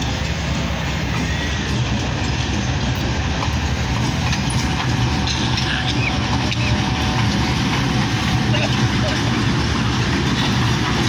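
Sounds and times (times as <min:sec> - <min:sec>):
diesel locomotive engine droning: 0:00.0 - 0:11.0.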